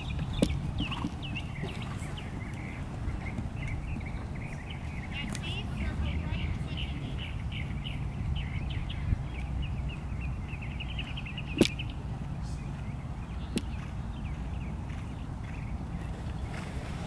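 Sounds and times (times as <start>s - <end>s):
small bird chirping: 0.0s - 16.6s.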